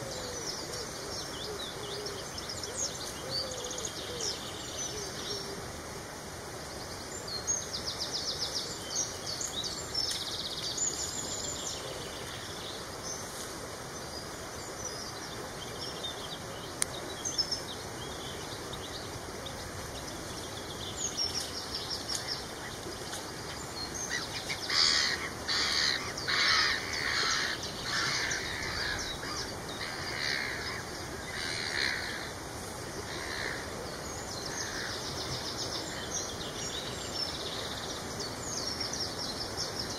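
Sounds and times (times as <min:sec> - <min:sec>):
birds singing and calling: 0:00.0 - 0:05.7, 0:06.7 - 0:39.9.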